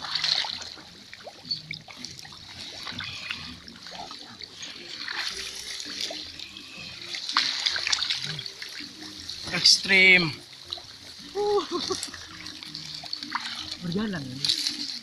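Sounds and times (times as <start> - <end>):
wading through water splashing: 0.0 - 15.0.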